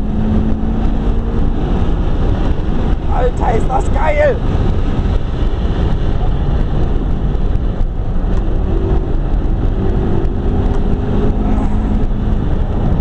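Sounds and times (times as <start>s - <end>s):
car engine at speed: 0.0s - 13.0s
road and tyre noise: 0.0s - 13.0s.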